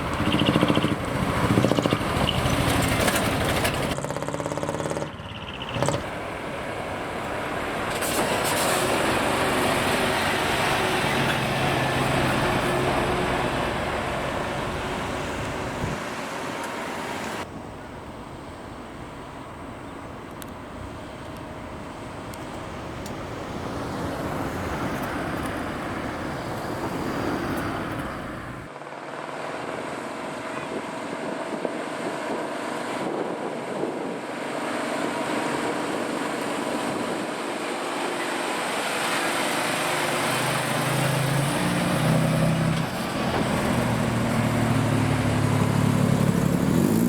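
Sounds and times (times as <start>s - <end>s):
diesel truck engines under load: 0.0s - 28.7s, 29.8s - 47.0s.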